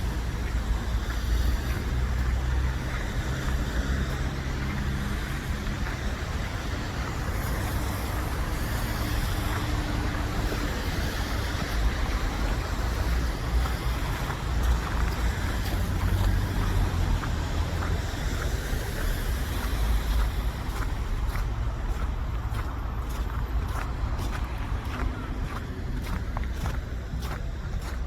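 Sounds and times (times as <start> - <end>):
cars passing with tyre noise: 0.0 - 28.0.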